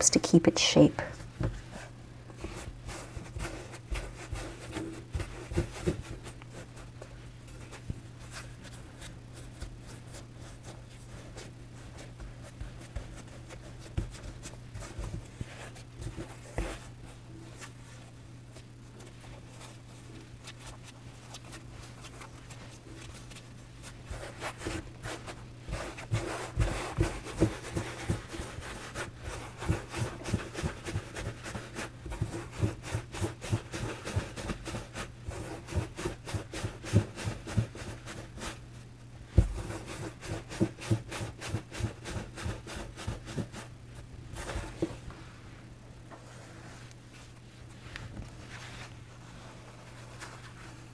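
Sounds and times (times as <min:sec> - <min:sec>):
hands pressing and patting dough: 0:00.2 - 0:45.2
dough rolling thuds and rubbing: 0:01.1 - 0:50.9.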